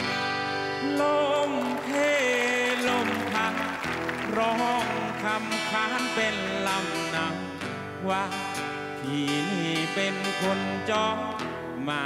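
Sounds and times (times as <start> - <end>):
strummed acoustic guitar: 0.0 - 12.0
man singing: 0.3 - 12.0.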